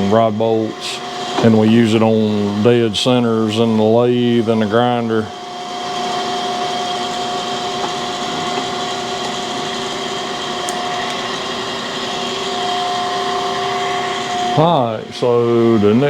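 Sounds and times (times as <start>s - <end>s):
grinding machine running: 0.0s - 16.0s.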